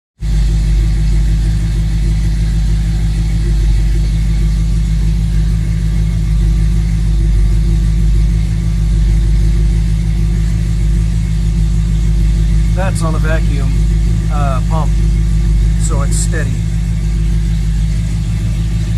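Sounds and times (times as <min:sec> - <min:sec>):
truck engine idling: 0:00.2 - 0:18.9.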